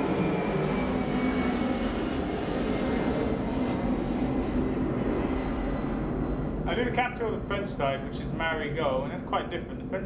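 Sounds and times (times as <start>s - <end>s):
airplane flying over: 0.0s - 10.0s.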